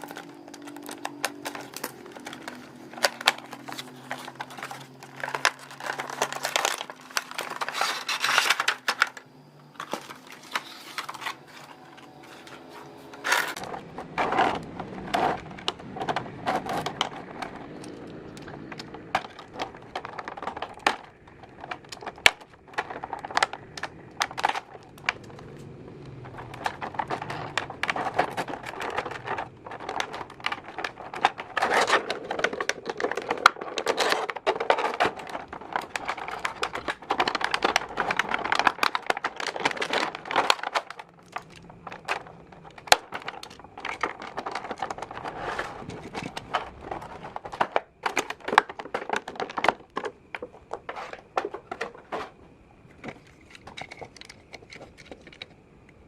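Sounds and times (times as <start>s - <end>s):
packaging crinkling: 0.0s - 55.6s.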